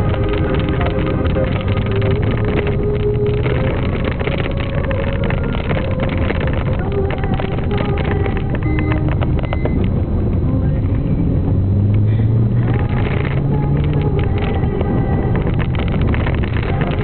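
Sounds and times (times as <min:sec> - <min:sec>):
car engine revving: 0:00.0 - 0:17.0
road noise: 0:00.0 - 0:17.0.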